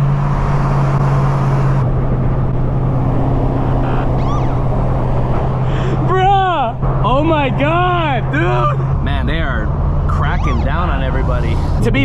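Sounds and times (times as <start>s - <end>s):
car exhaust droning: 0.0s - 11.8s.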